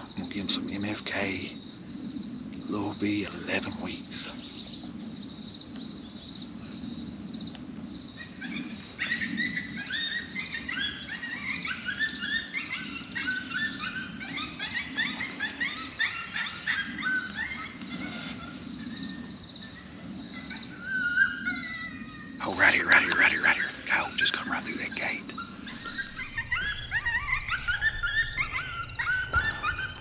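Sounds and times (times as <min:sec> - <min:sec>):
coyotes yipping and howling: 0:00.0 - 0:30.0
crickets chirping: 0:00.0 - 0:30.0.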